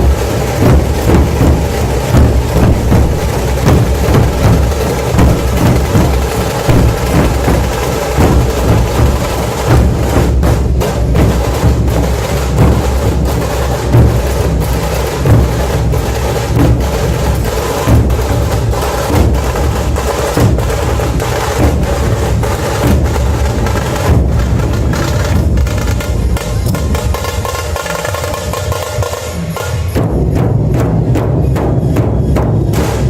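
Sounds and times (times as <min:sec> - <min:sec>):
snare drum rapid strokes: 0:00.0 - 0:30.1, 0:32.3 - 0:33.0
dhol drums beating rhythm: 0:00.0 - 0:33.0.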